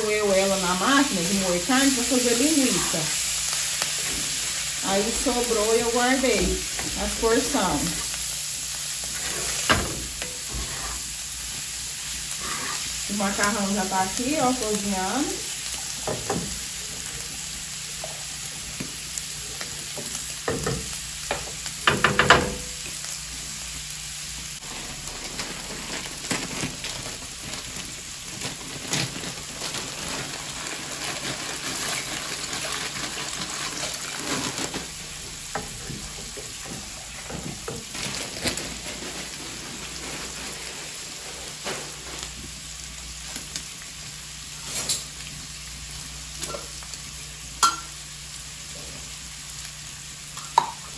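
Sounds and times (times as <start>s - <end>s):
meat and onions sizzling: 0.0s - 50.9s.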